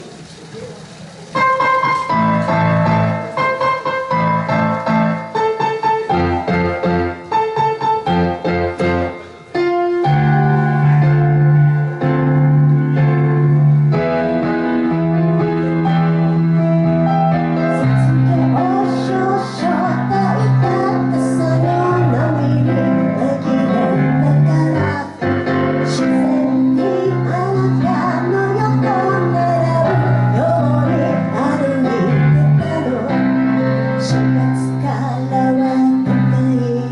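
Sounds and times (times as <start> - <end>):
piano playing chords and melody: 1.3 - 36.9
person singing: 1.4 - 36.9.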